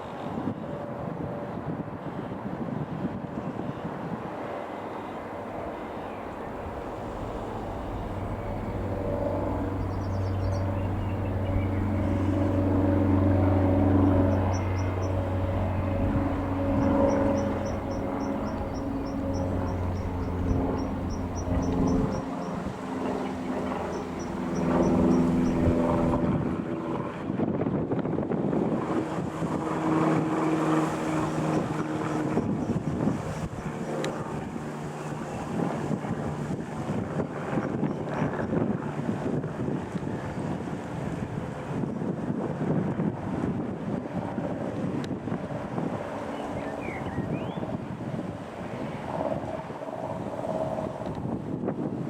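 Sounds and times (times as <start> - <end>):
light aeroplane engine droning: 0.0 - 52.0
wind buffeting microphone: 0.1 - 52.0.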